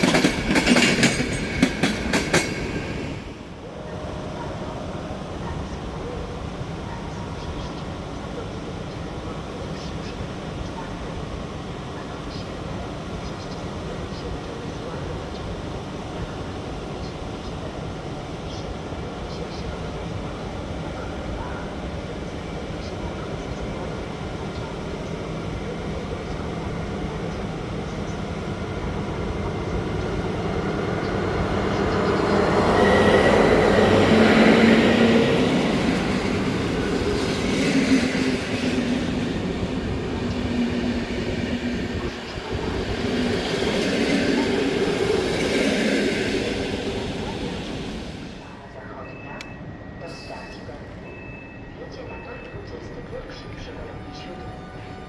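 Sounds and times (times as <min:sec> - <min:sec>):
train passing through station: 0:00.0 - 0:55.0.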